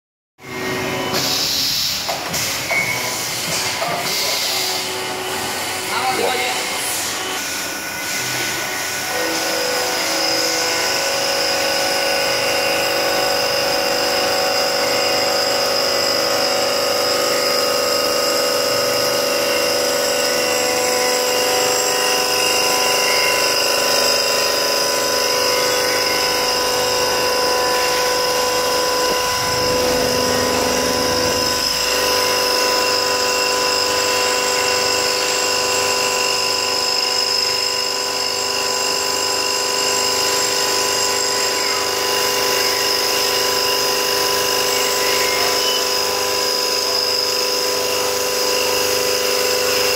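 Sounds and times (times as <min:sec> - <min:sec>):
milling spindle whine: 0:08.5 - 0:49.9.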